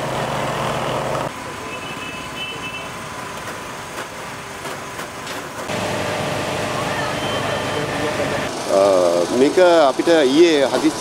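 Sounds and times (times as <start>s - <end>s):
engine hum: 0.0s - 1.7s, 2.9s - 11.0s
street ambience: 0.0s - 11.0s.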